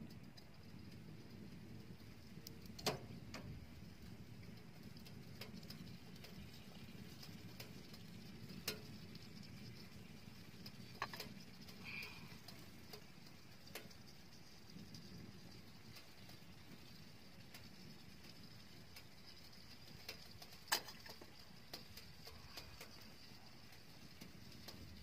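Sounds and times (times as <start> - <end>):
low steady rumble: 0.0 - 25.0
wood stove crackling: 0.0 - 25.0.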